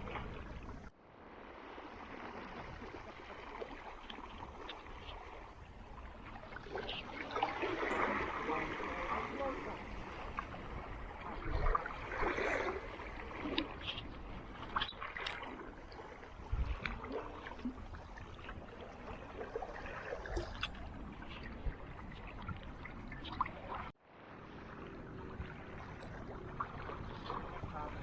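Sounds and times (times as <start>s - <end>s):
water splashing around a kayak: 0.0s - 28.0s.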